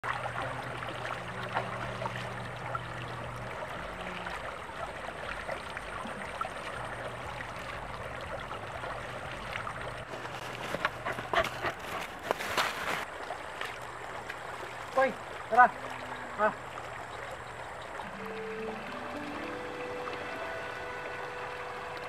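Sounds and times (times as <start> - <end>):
stream flowing over rocks: 0.0 - 22.0
water pouring from a pipe: 0.0 - 22.0.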